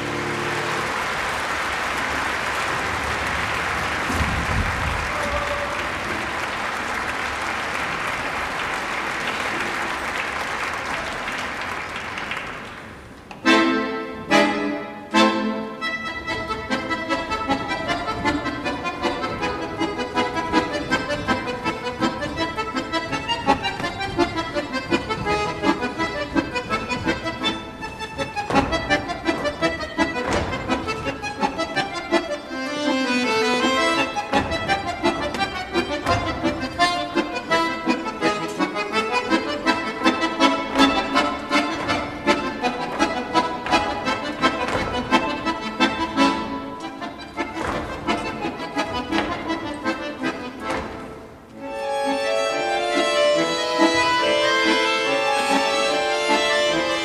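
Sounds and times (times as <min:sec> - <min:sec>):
accordion: 0:00.0 - 0:12.0, 0:12.6 - 0:57.0
folk dance music: 0:00.0 - 0:57.0.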